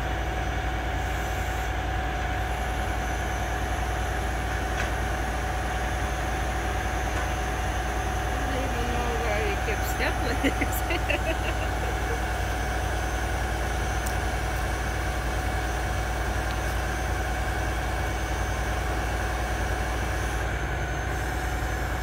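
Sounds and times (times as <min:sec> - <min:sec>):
constant whine: 0:00.0 - 0:22.0
diesel crane engine running: 0:00.0 - 0:22.0.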